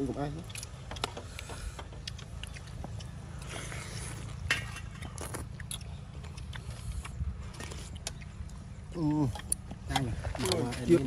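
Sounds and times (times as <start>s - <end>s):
chewing and slurping noodles: 0.4s - 11.0s.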